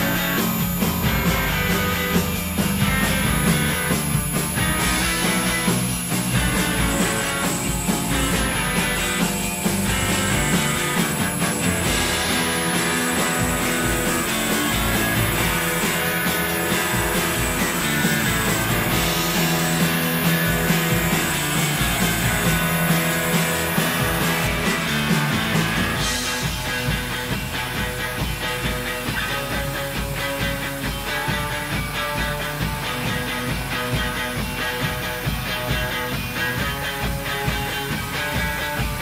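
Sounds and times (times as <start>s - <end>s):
rock music with steady beat: 0.0s - 39.0s.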